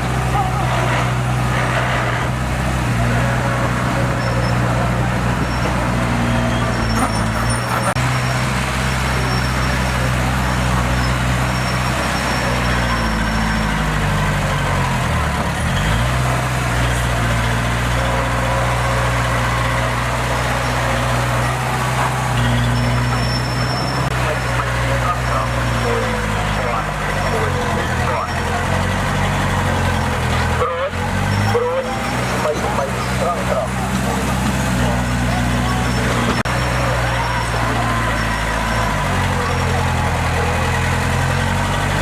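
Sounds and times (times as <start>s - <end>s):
heavy machinery diesel engine: 0.0s - 42.0s.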